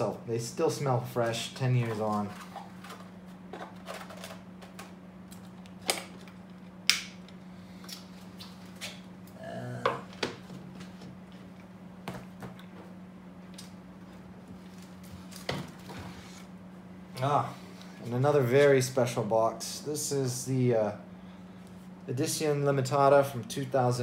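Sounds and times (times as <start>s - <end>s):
low hum: 0.0s - 22.7s.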